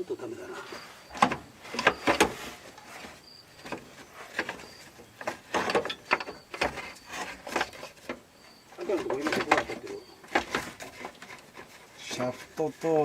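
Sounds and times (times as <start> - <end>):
metal parts clunking and scraping: 1.0 - 13.0.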